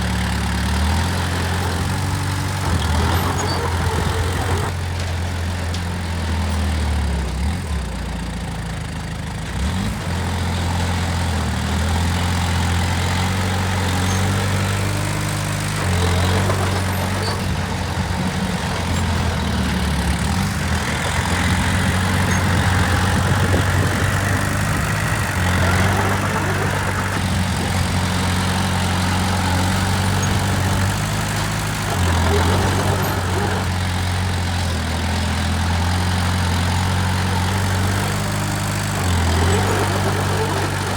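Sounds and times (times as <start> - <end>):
heavy machinery diesel engine: 0.0 - 40.9.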